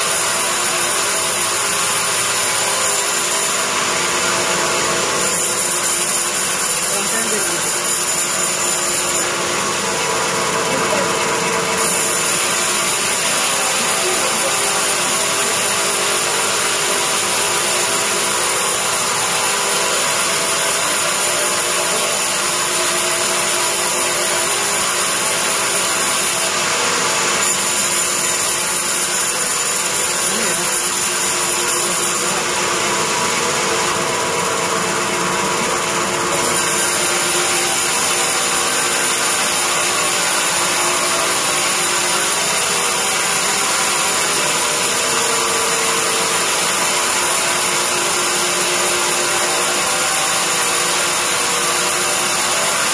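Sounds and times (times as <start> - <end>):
bandsaw cutting wood: 0.0 - 52.9.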